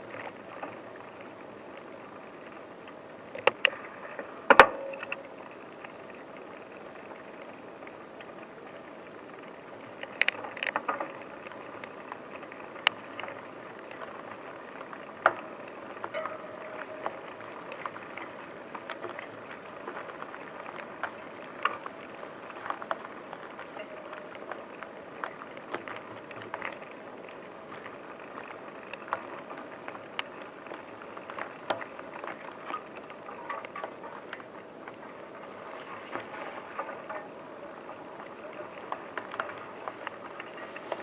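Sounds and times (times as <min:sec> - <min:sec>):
bicycle rolling on rough ground: 0:00.0 - 0:41.0
bike clicks and rattles: 0:00.0 - 0:41.0.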